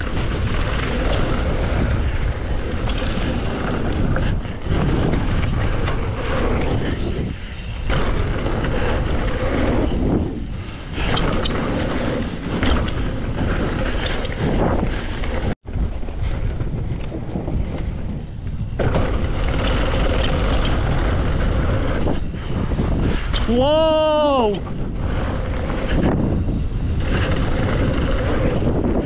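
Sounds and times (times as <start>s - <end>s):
mountain bike on dirt trail: 0.0s - 29.0s
wind rushing over microphone: 0.0s - 29.0s.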